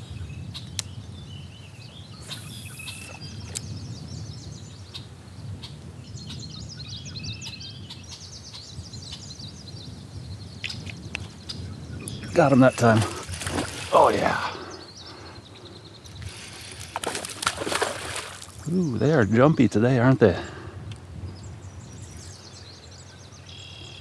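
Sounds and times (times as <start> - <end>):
birds chirping and singing: 0.0 - 24.0.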